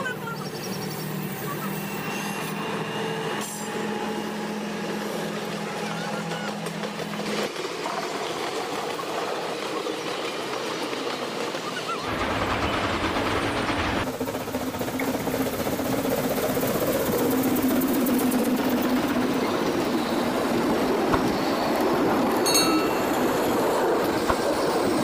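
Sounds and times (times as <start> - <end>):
passenger train rolling past: 0.0 - 25.0
steam locomotives working: 0.0 - 25.0.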